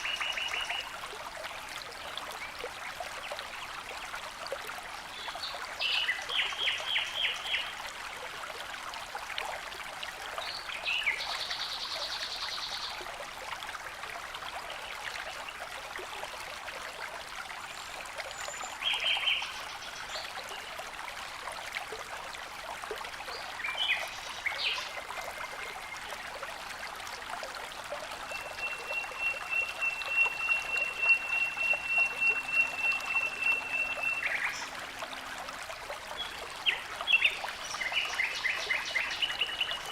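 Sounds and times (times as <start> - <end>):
falling and flowing water: 0.0 - 39.9.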